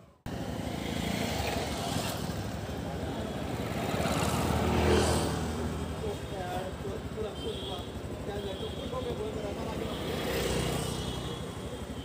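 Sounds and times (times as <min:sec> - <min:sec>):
road noise: 0:00.0 - 0:12.0
vehicle engines running: 0:00.0 - 0:12.0.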